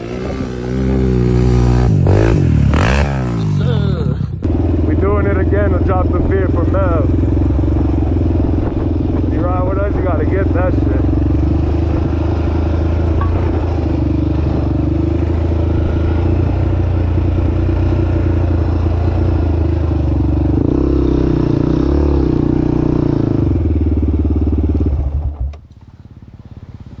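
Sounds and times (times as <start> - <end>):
vehicle engine idling: 2.0 - 20.7, 22.4 - 27.0.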